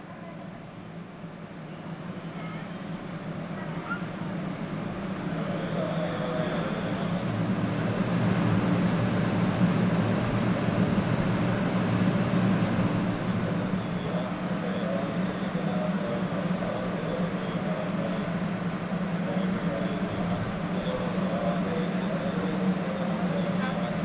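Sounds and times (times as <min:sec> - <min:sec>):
train equipment humming: 0:00.0 - 0:24.0.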